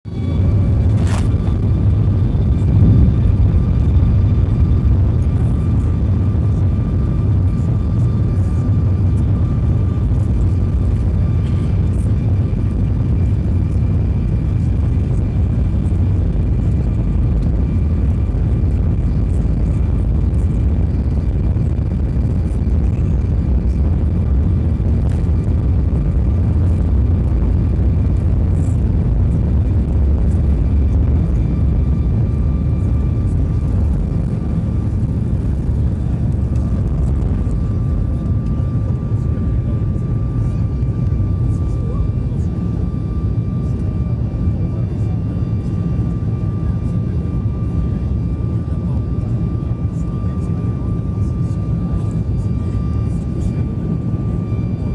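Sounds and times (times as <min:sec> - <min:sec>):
jet engines at takeoff power: 0:00.1 - 0:54.9.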